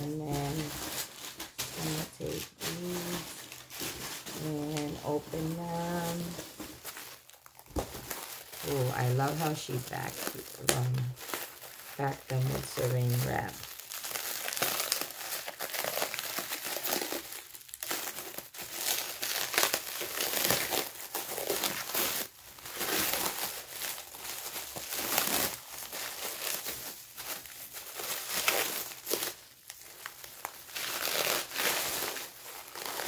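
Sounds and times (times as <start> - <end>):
cling wrap crinkling: 0.0 - 33.0.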